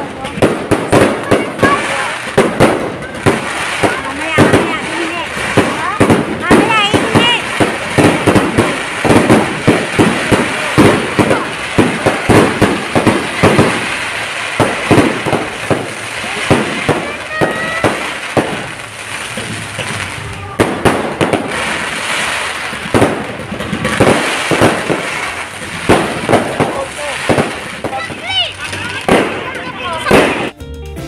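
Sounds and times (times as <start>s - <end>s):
firework whistling: 0.0s - 30.5s
fireworks bangs and crackles: 0.0s - 30.6s.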